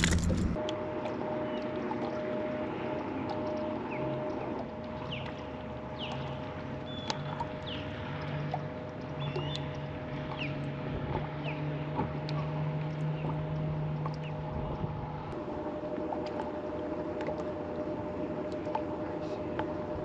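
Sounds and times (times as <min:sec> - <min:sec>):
electric boat motor humming: 0:00.0 - 0:20.0.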